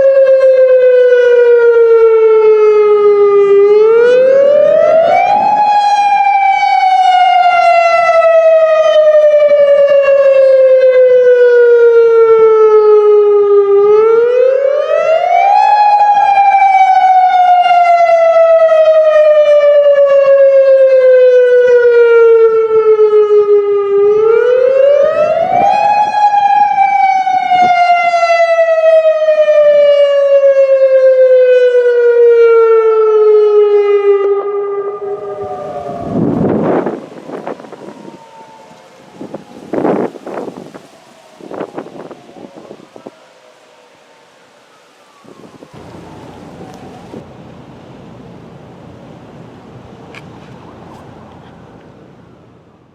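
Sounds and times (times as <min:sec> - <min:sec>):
outdoor warning siren: 0:00.0 - 0:52.9.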